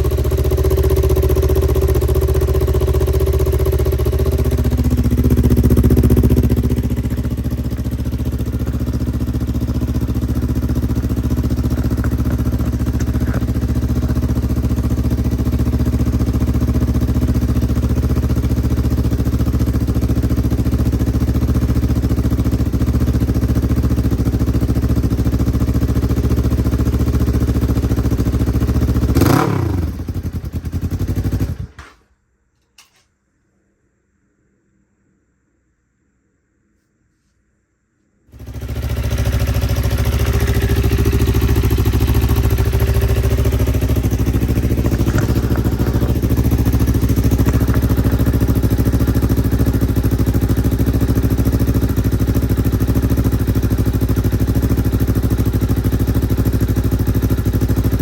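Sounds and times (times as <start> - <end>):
engine winding down: 0.0 - 31.7, 38.3 - 58.0
motorcycle engine idling: 0.0 - 31.8, 38.3 - 58.0.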